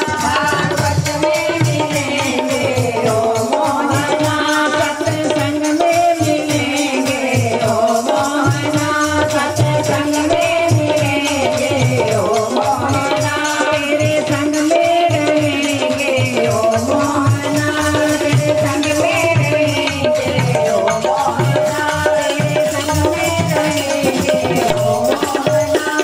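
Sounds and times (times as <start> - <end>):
tabla beat: 0.0 - 26.0.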